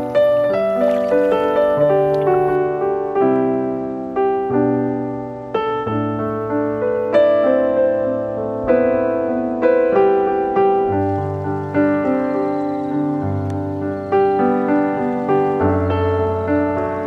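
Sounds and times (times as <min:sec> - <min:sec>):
slow piano notes and chords: 0:00.0 - 0:17.0.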